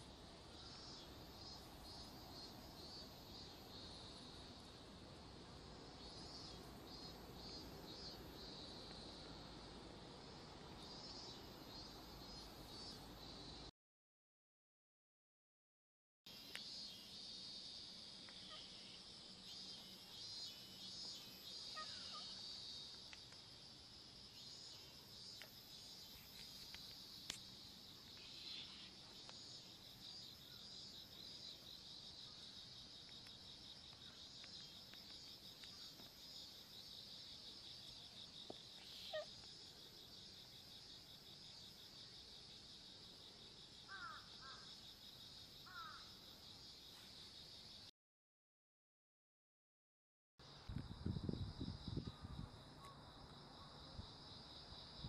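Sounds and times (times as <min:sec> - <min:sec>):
insects chirring: 0:00.0 - 0:13.7, 0:16.3 - 0:47.9, 0:50.4 - 0:55.0.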